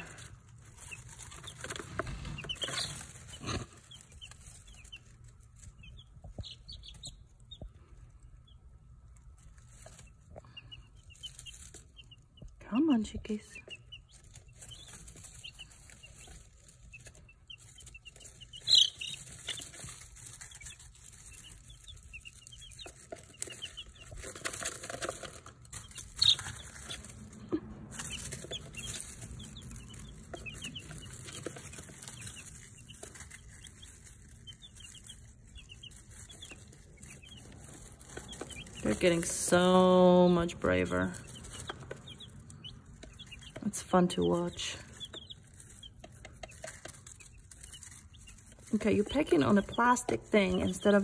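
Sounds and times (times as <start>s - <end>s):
baby chicks peeping: 0.0s - 51.0s.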